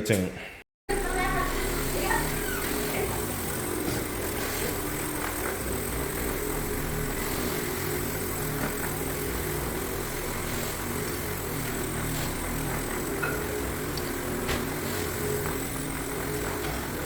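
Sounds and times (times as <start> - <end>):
floor cleaning machine motor hum: 0.9 - 17.0.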